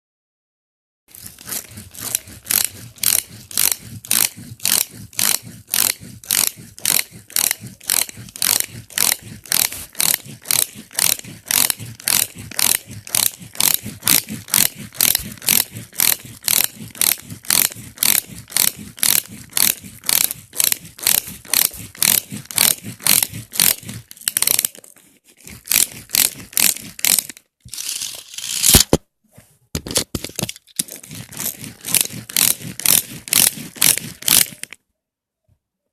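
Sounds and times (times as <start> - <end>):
toy car ratcheting clicks: 1.1 - 29.0, 30.1 - 34.8
toy car scraping: 1.1 - 29.0, 29.8 - 34.8.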